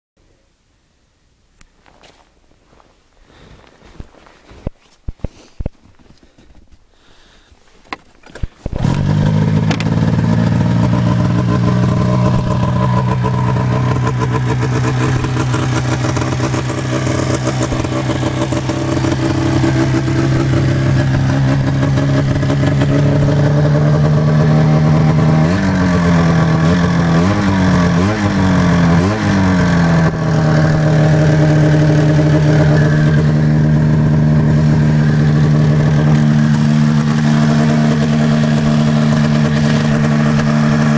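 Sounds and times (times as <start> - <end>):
snowmobile engine idling: 5.2 - 40.9
engine throttle blips: 7.9 - 40.9.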